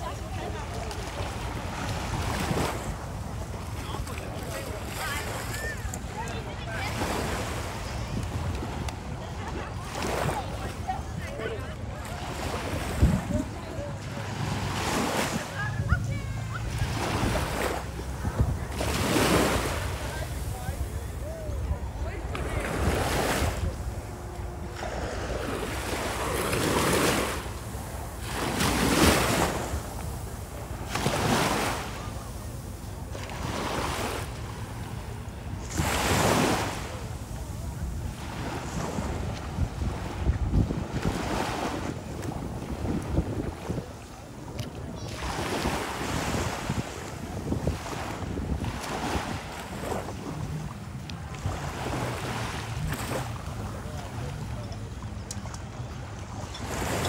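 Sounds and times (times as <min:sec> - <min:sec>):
surf breaking on beach: 0:00.0 - 0:54.7
wind on microphone: 0:01.4 - 0:54.7.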